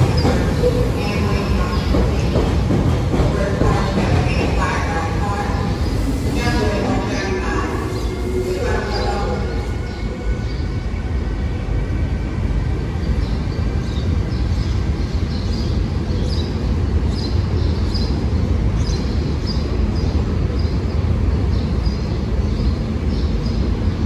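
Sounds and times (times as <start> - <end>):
trains rumbling: 0.0 - 24.0.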